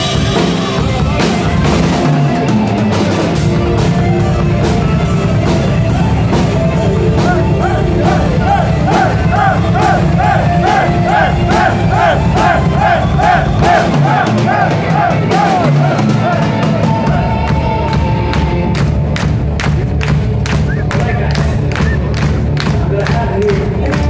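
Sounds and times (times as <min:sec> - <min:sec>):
drum kit beat: 0:00.0 - 0:24.0
metal band playing live: 0:00.0 - 0:24.0.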